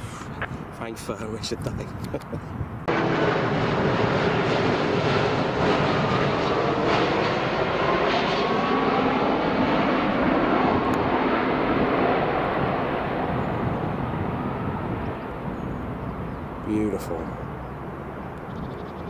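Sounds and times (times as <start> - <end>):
jet engines passing: 0.0 - 19.0.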